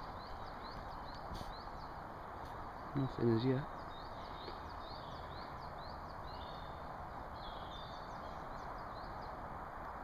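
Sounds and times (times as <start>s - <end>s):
birds chirping and trilling: 0.0s - 10.0s
steady background hiss: 0.0s - 10.0s.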